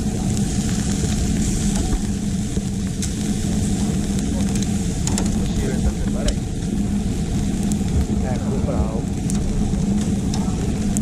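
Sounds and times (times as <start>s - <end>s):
engine droning steadily: 0.0s - 11.0s.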